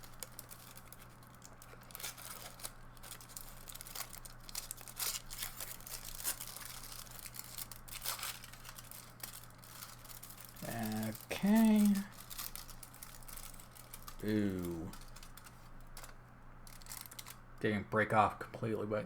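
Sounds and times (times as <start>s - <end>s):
foil wrapper crinkling: 0.0s - 17.4s.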